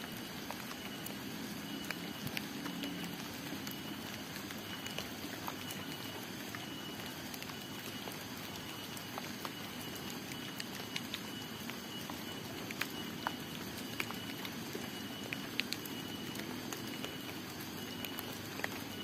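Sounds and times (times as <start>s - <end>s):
water drops falling: 0.1s - 19.0s.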